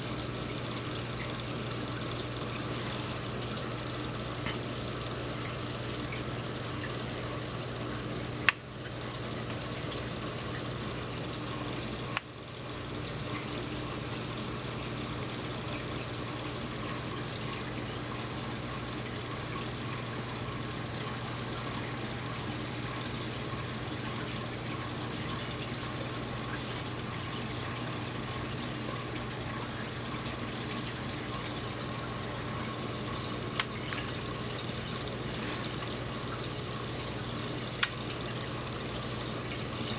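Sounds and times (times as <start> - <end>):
aquarium water trickling and splashing: 0.0 - 39.9.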